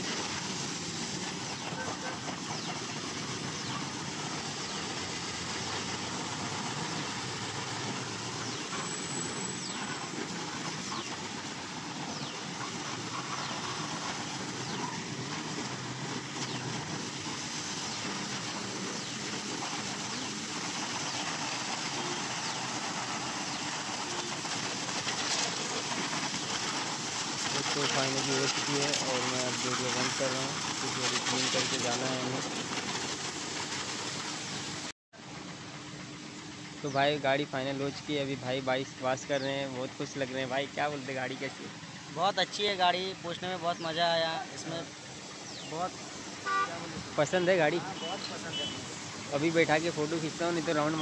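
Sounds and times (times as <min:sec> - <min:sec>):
hose spraying water: 0:00.0 - 0:51.0.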